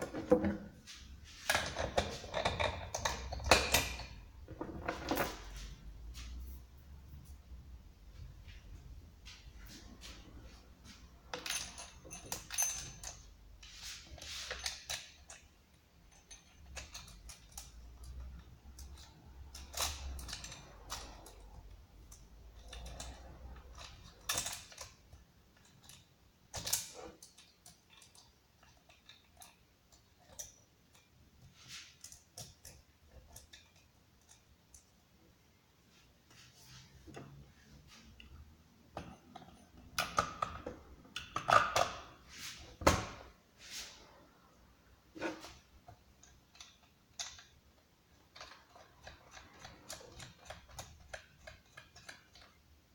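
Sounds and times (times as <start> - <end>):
handling clicks and rustles: 0.0 - 52.9.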